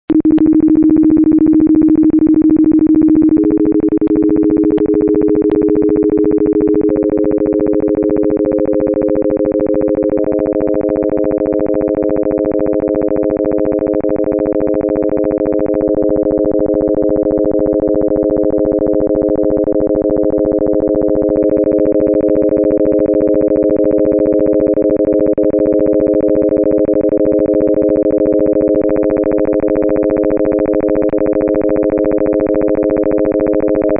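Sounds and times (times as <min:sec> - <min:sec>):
steady sine tones: 0:00.1 - 0:33.9.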